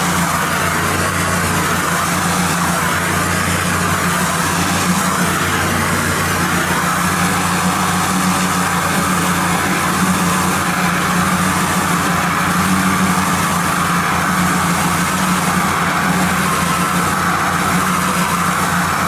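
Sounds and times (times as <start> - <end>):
high-pressure water jet hissing: 0.0 - 19.0
pressure washer engine humming: 0.0 - 19.0.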